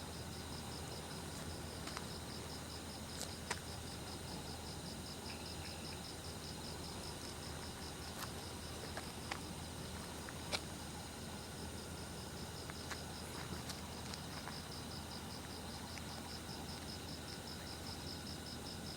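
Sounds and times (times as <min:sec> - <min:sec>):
faint background hiss: 0:00.0 - 0:18.9
insect chirping: 0:00.0 - 0:18.9.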